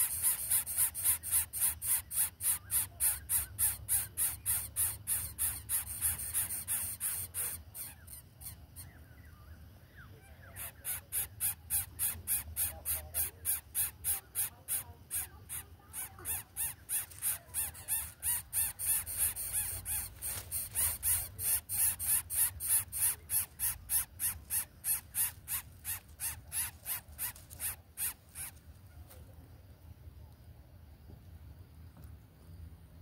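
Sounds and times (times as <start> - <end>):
nestling begging with raspy hisses: 0.0 - 8.7, 10.4 - 28.6.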